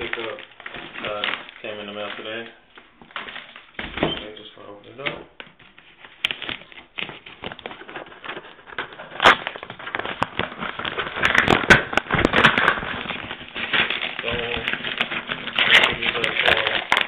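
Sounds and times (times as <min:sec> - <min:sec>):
parcel wrapping crinkling and tearing: 0:00.0 - 0:17.0.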